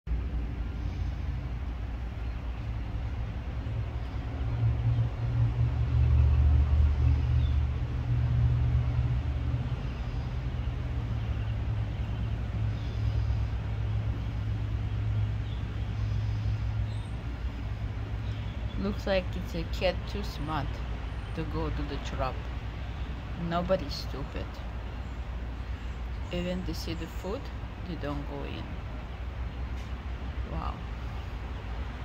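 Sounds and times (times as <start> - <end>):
low engine rumble: 0.1 - 32.0.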